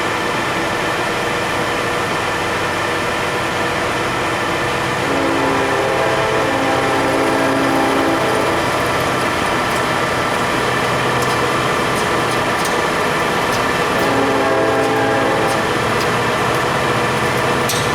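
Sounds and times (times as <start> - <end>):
lathe hum and gear whine: 0.0 - 17.9.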